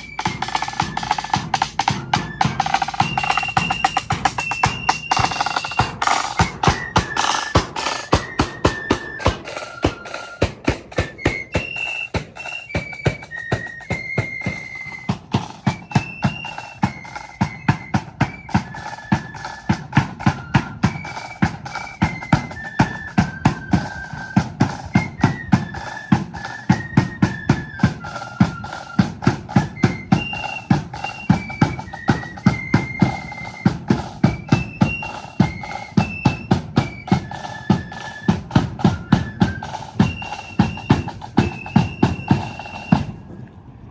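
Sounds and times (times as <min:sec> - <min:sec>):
bass drum and snare drums: 0:00.0 - 0:43.2
flutes playing a melody: 0:00.0 - 0:43.7.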